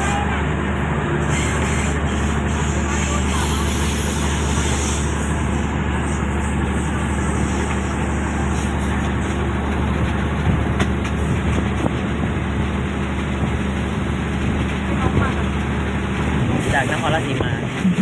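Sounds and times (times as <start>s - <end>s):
diesel railcar engine drone: 0.0s - 18.0s
wheel and rail noise: 0.0s - 18.0s.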